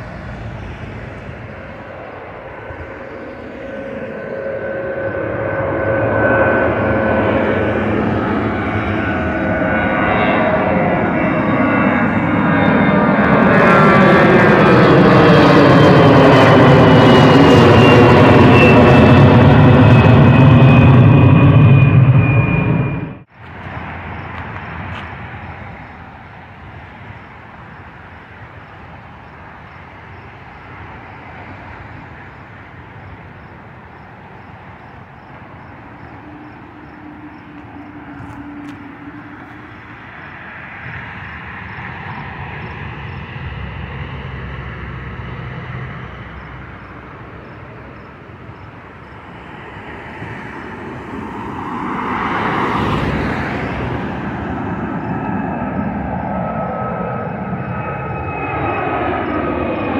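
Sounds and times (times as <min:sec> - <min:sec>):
jet aircraft flying overhead: 0:00.0 - 0:59.9.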